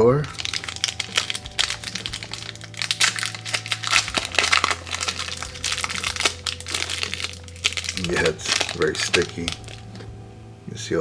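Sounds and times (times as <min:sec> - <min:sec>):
wrapper crinkling and tearing: 0:00.0 - 0:10.1.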